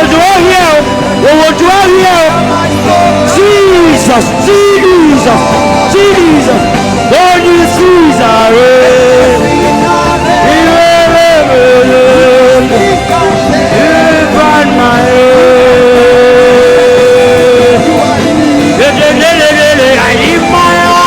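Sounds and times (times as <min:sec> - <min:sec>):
band playing worship music: 0:00.0 - 0:21.0.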